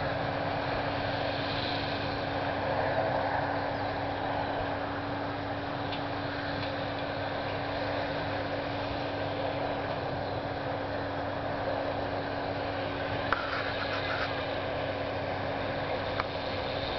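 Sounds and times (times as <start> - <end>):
round baler machinery noise: 0.0 - 16.9
tractor diesel engine hum: 0.0 - 16.9.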